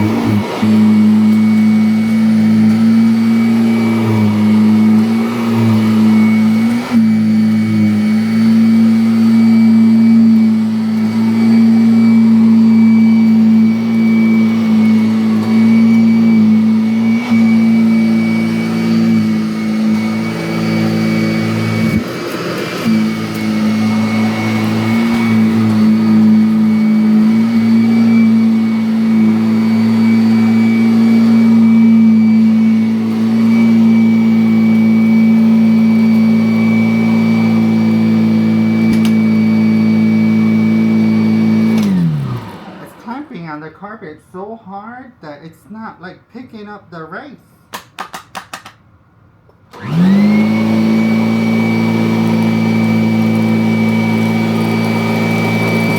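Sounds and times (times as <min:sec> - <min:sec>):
vacuum cleaner motor whining: 0:00.0 - 0:44.0, 0:49.7 - 0:55.9.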